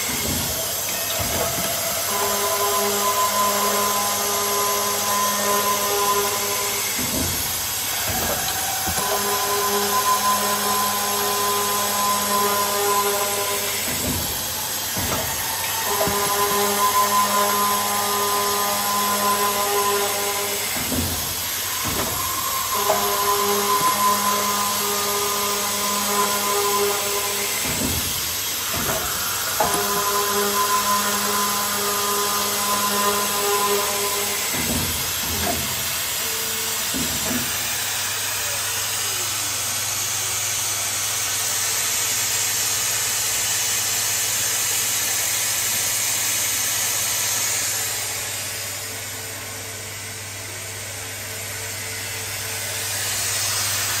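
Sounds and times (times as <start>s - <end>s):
circular saw cutting metal: 0.0s - 54.0s.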